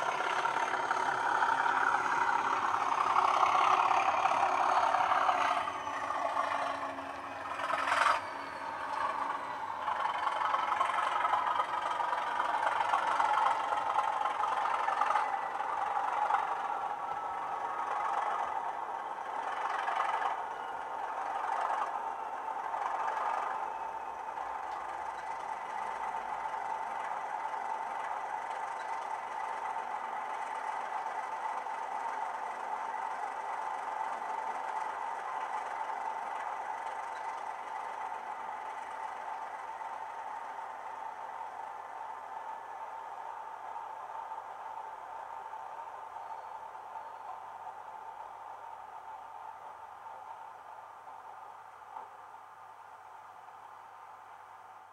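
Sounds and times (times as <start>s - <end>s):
diesel engine idling: 0.0s - 52.2s.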